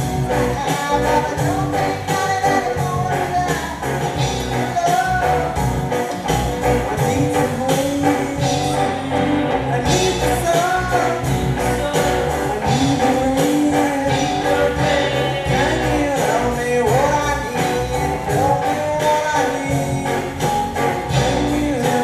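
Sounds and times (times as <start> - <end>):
lead guitar melody bending: 0.0 - 22.0
live rock band playing: 0.0 - 22.0.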